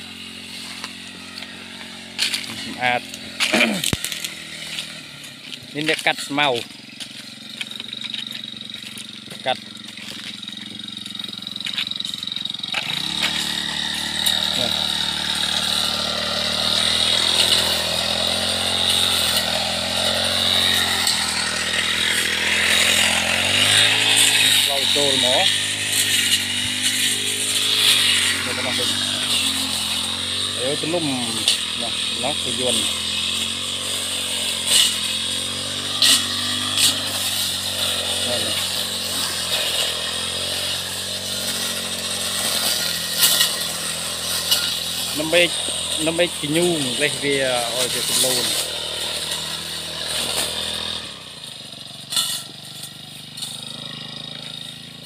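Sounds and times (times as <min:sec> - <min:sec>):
brush cutter engine running: 0:00.0 - 0:55.0.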